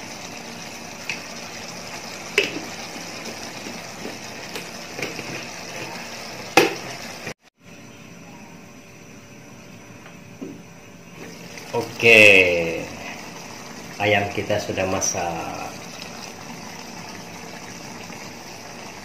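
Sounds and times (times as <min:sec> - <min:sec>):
gravy bubbling and hissing in a wok: 0:00.0 - 0:19.0.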